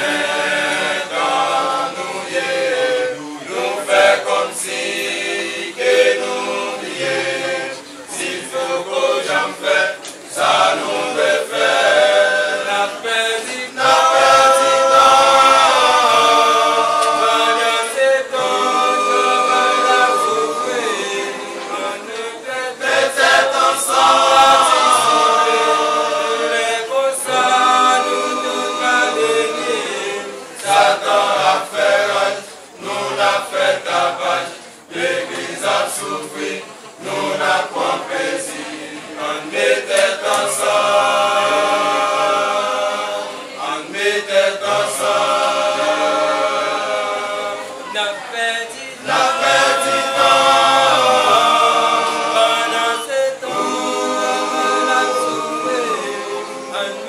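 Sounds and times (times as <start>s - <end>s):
men singing a hymn: 0.0s - 57.0s.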